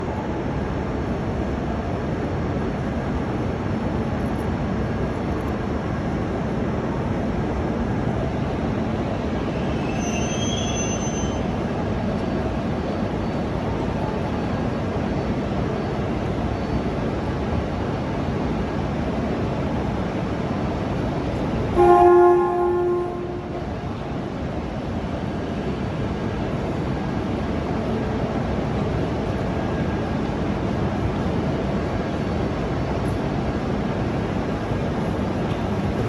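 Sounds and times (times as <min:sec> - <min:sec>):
rail and station rumble: 0:00.0 - 0:36.0.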